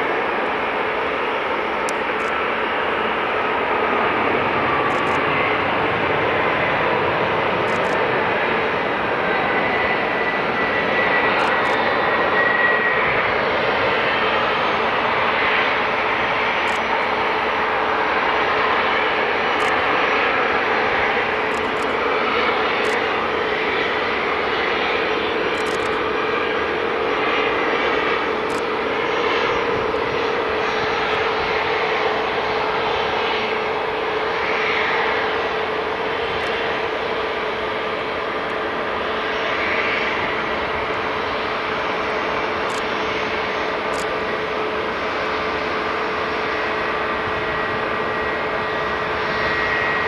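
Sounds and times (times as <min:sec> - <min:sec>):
jet engines rushing: 0:00.0 - 0:50.0
low engine whine: 0:00.0 - 0:50.0.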